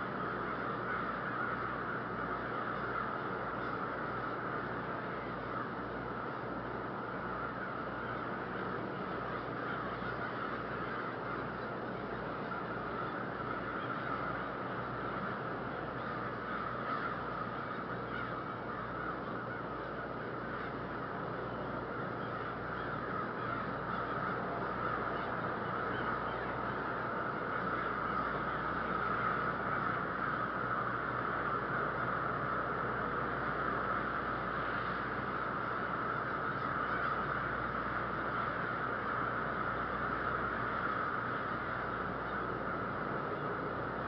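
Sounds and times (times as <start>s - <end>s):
crows cawing: 0.0s - 44.0s
low steady hum: 0.0s - 44.0s.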